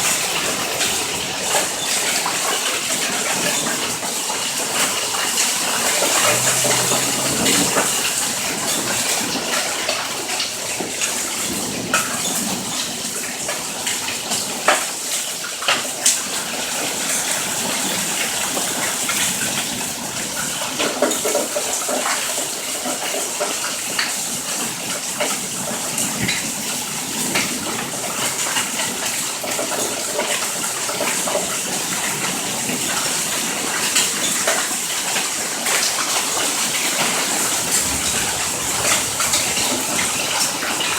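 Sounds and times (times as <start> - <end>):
rain and hail downpour: 0.0 - 40.9.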